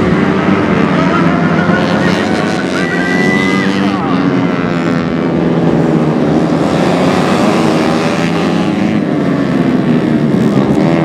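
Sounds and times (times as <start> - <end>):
motorcycles racing past at high revs: 0.0 - 11.0.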